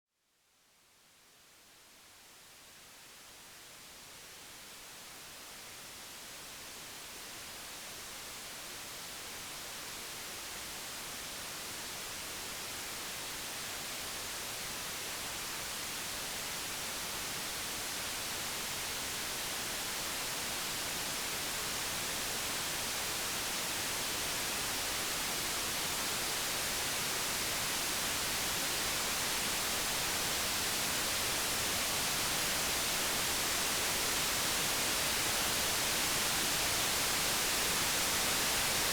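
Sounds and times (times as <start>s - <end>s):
white noise hiss: 0.2s - 38.9s.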